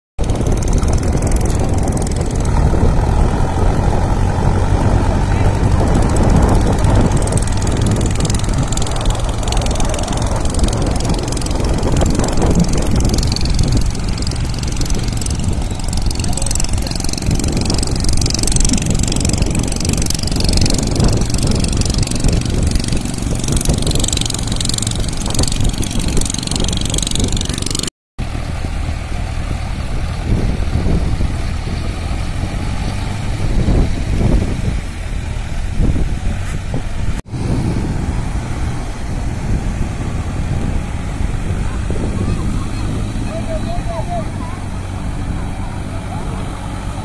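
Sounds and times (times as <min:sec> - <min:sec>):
tractor diesel engine running: 0:00.2 - 0:47.0
wind: 0:00.2 - 0:47.0.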